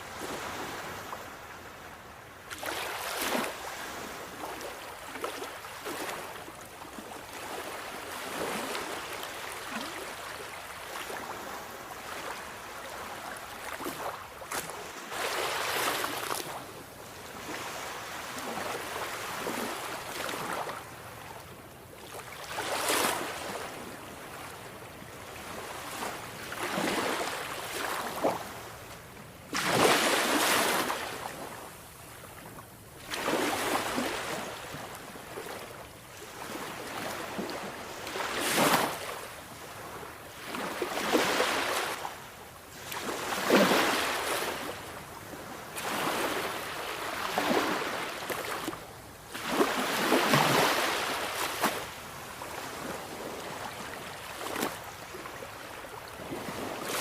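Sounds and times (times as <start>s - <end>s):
sea waves breaking on shore: 0.0s - 21.4s, 22.0s - 57.0s.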